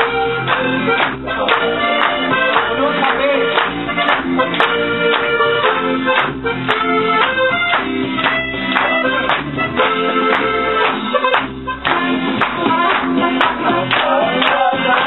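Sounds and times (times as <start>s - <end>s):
audience clapping along: 0.0s - 15.0s
live folk dance band: 0.0s - 15.0s.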